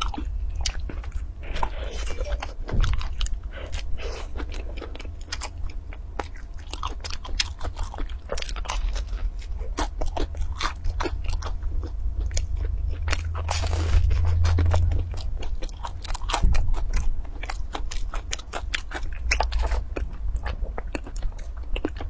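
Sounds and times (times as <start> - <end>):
crunchy pizza chewing: 0.0 - 22.0
steady low hum: 0.0 - 22.0.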